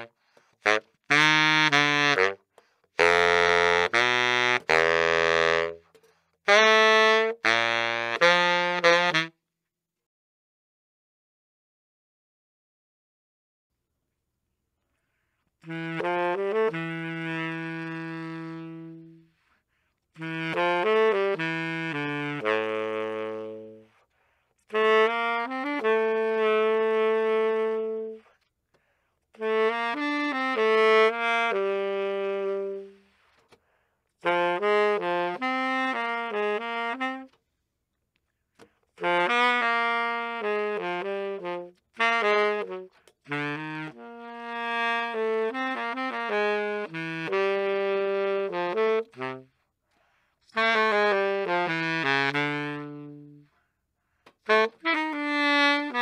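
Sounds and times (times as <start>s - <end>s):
baritone saxophone melody: 0.0s - 9.4s, 15.6s - 28.5s, 29.4s - 33.6s, 34.2s - 37.4s, 38.6s - 49.8s, 50.4s - 56.0s.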